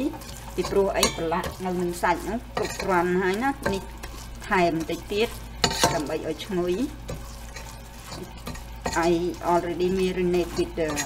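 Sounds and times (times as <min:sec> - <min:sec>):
metal spoon scraping pot: 0:00.0 - 0:01.8, 0:02.5 - 0:11.0
sugar sizzling in hot oil: 0:00.0 - 0:11.0.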